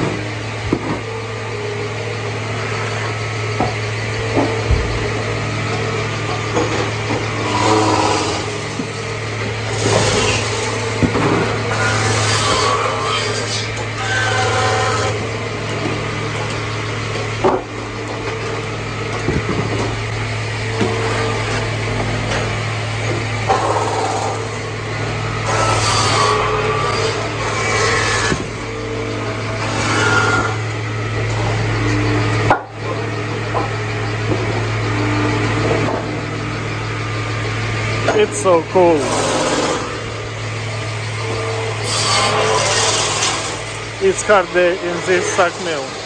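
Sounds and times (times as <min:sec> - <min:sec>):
sawmill machinery humming: 0:00.0 - 0:46.0.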